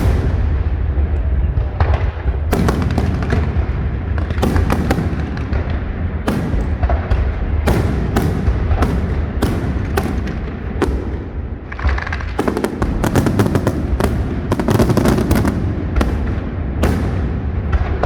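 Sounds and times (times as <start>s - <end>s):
fireworks bangs and cracks: 0.0s - 18.0s
rapid fireworks crackle: 0.0s - 18.0s.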